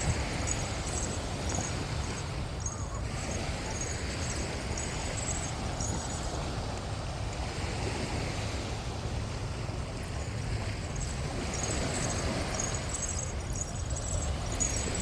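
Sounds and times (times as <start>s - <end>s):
sea waves on a beach: 0.0s - 15.0s
wind rumbling on microphone: 0.0s - 15.0s.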